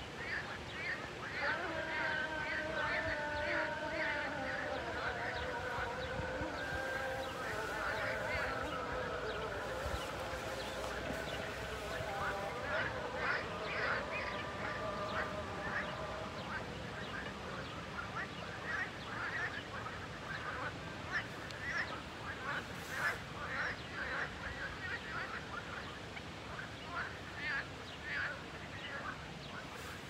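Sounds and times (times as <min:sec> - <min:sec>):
distant sung voice: 0:00.0 - 0:30.0
frogs calling: 0:00.1 - 0:29.2.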